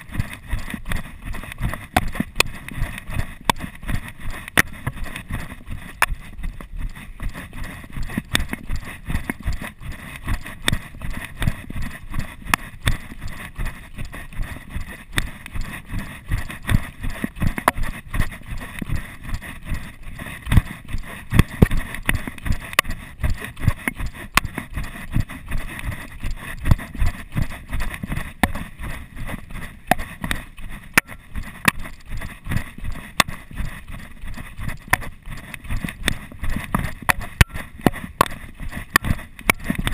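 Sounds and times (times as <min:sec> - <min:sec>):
running footsteps on dirt trail: 0:00.0 - 0:39.9.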